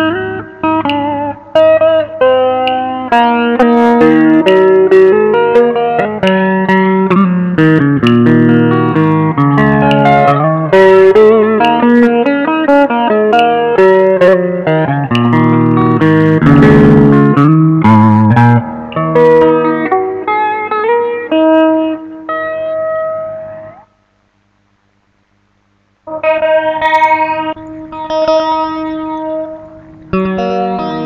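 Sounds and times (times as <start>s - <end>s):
electric guitar lead line: 0.0s - 24.0s, 26.0s - 31.0s.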